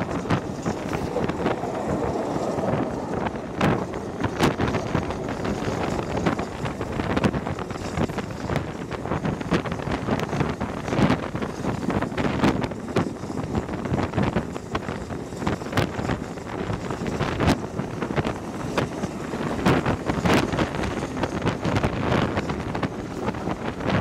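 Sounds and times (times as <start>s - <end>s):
train rumbling on rails: 0.0s - 24.0s
wind buffeting microphone: 0.0s - 24.0s.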